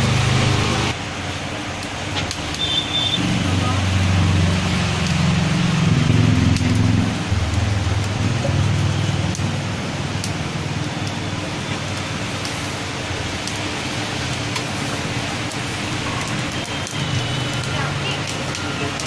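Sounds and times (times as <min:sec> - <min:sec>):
coals crackling: 0:00.0 - 0:19.0
skewers sizzling over charcoal grill: 0:00.0 - 0:19.0.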